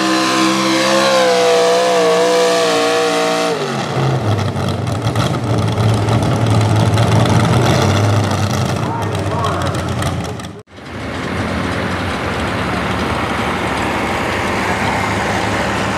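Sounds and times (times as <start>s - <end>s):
pulling truck engine at full throttle: 0.0s - 15.9s.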